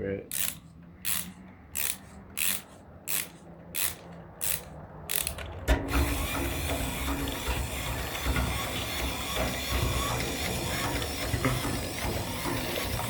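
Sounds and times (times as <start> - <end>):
wind-up toy ratchet clicks: 0.3 - 5.4, 6.0 - 13.0.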